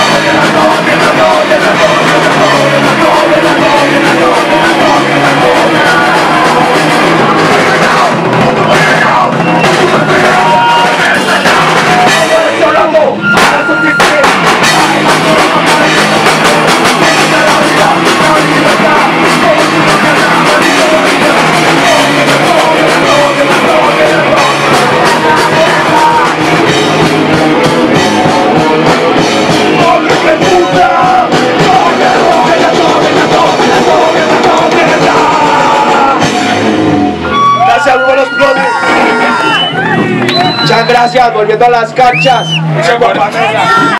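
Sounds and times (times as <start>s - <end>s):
distorted electric guitar: 0.0s - 43.9s
pounding drum kit: 0.0s - 43.9s
punk rock band playing: 0.0s - 43.9s.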